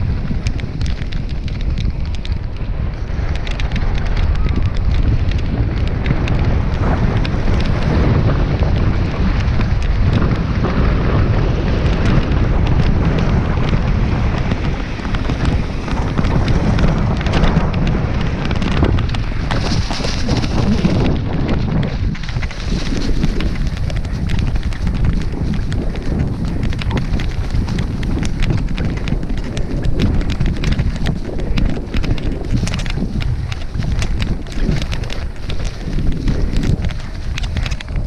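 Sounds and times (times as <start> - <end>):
bike rattling over bumps: 0.0 - 38.0
tyre rumble on dirt: 0.0 - 38.0
wind buffeting microphone: 0.0 - 38.0.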